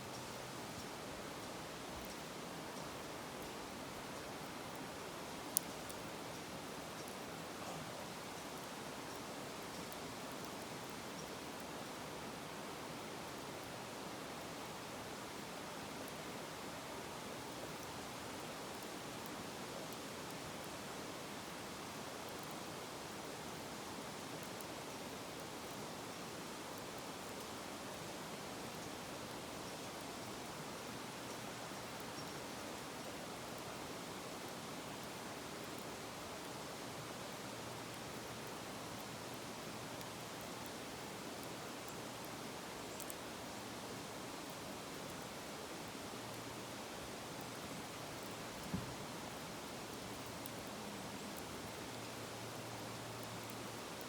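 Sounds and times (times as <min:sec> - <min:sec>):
faint fire crackles: 0:00.0 - 0:54.0.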